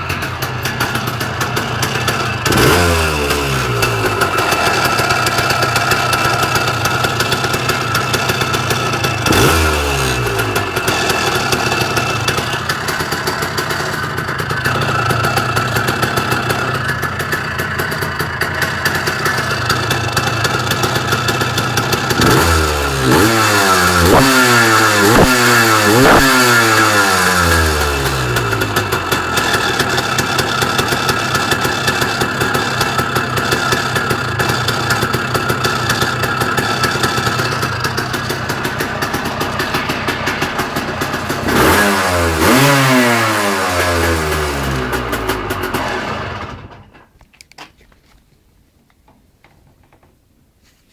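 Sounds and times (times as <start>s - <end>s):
engine revving: 0.0s - 46.8s
two-stroke motorcycle engine idling: 0.0s - 47.1s.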